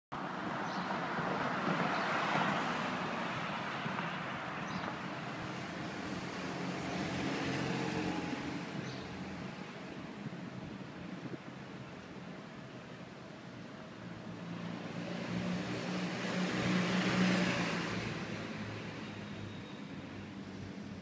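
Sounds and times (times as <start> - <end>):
tyres of passing vehicle: 0.2 - 21.0.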